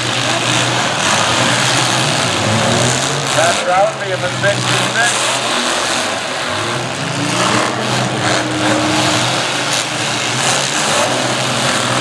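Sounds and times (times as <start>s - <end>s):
car engines running and revving: 0.0s - 12.0s.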